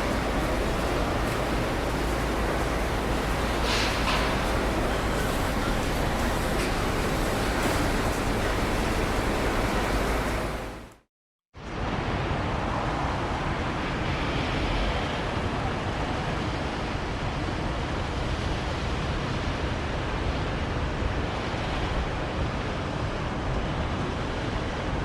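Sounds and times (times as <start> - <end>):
distant city traffic roar: 0.0 - 25.0.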